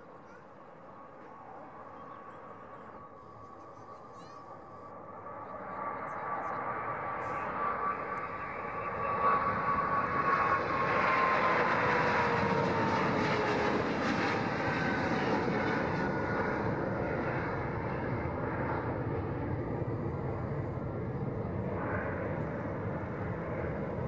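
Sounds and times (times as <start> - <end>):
jet airliner roaring past: 0.0 - 24.0
whining jet engine tones: 0.0 - 24.0.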